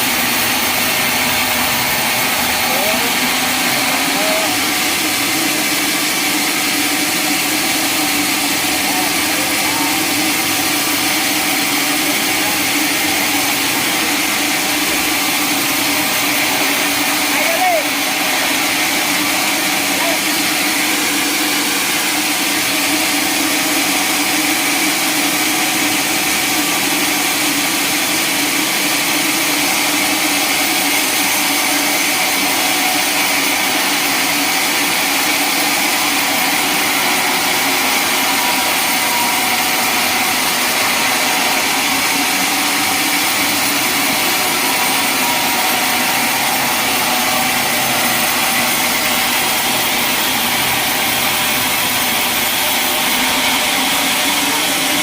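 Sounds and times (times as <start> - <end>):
sawmill saw running: 0.0 - 55.0.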